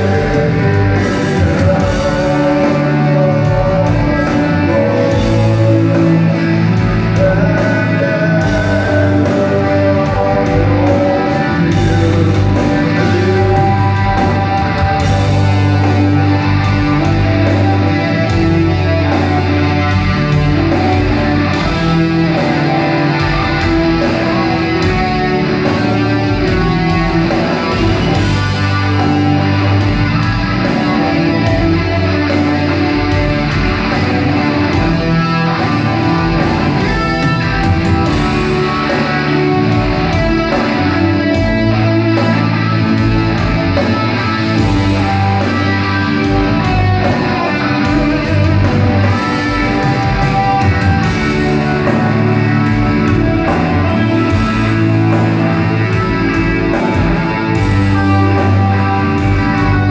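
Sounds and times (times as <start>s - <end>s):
amplified guitar: 0.0s - 59.9s
live rock band playing: 0.0s - 59.9s.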